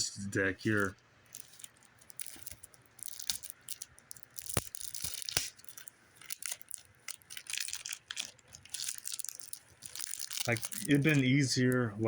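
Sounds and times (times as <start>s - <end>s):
cards clicking and rustling: 0.6s - 11.9s.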